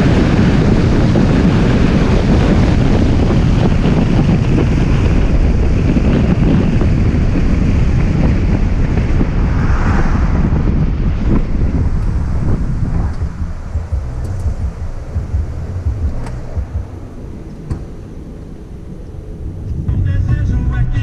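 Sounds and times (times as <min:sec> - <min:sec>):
steady low rumble: 0:00.0 - 0:21.0
strong wind buffeting microphone: 0:00.0 - 0:21.0.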